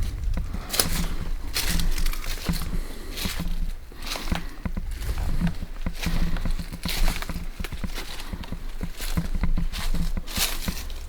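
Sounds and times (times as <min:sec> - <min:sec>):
footsteps scuffing: 0:00.0 - 0:11.0.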